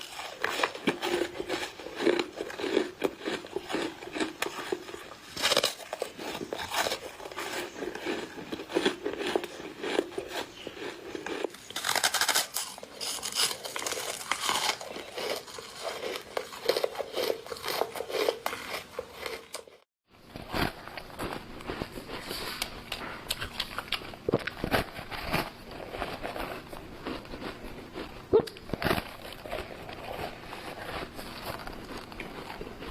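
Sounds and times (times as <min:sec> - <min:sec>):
crunching and chewing snow foam: 0:00.0 - 0:32.9.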